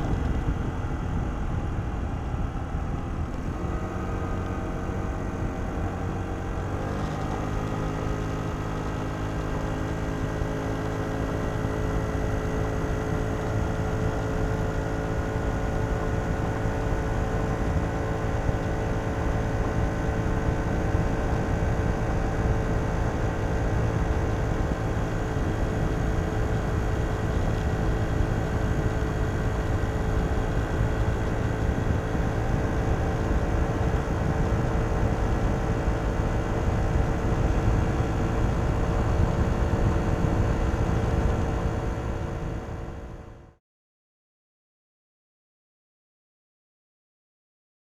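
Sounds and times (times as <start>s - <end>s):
scooter engine accelerating: 0.0s - 43.6s.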